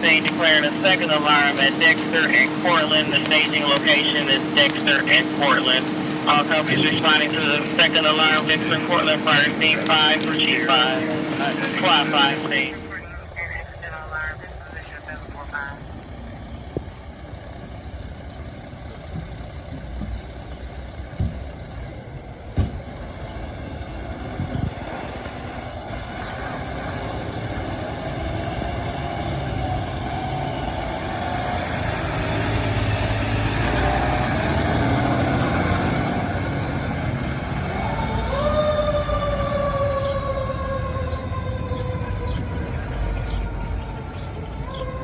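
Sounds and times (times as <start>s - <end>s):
siren: 0.0s - 20.9s, 23.9s - 45.0s
fire truck engine running: 0.0s - 45.0s.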